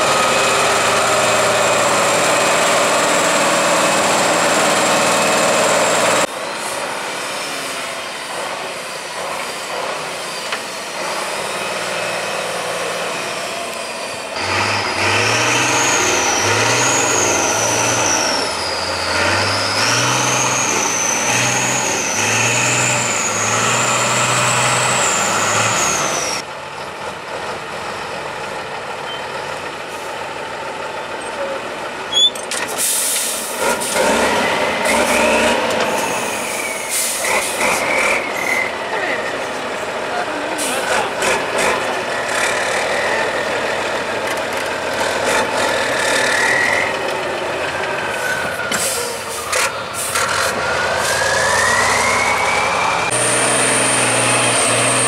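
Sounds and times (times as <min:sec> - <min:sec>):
truck engines labouring and revving: 0:00.0 - 0:55.0.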